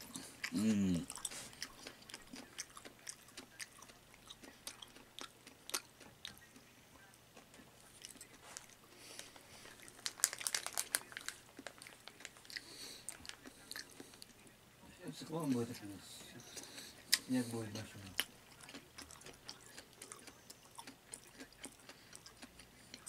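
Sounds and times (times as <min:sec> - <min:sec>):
person chewing food: 0:00.0 - 0:14.4, 0:15.4 - 0:23.0.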